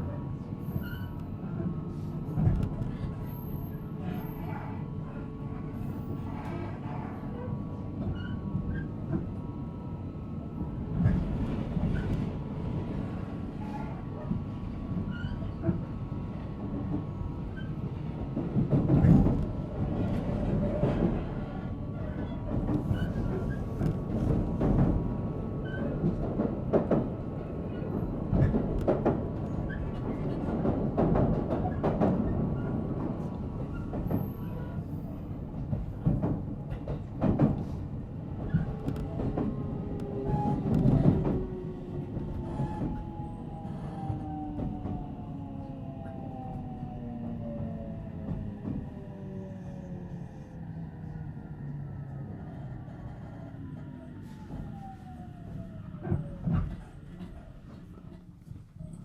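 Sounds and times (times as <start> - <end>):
train interior low rumble: 0.0 - 59.0.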